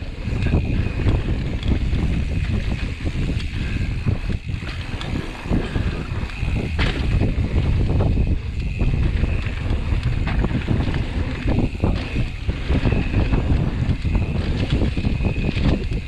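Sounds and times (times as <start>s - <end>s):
bike rattling over bumps: 0.0s - 16.0s
tyres rolling on dirt: 0.0s - 16.0s
wind buffeting microphone: 0.0s - 16.0s.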